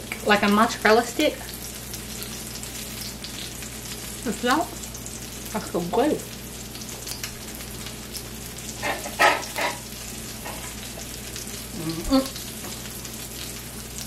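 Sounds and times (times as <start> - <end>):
patties sizzling in pan: 0.0 - 14.0.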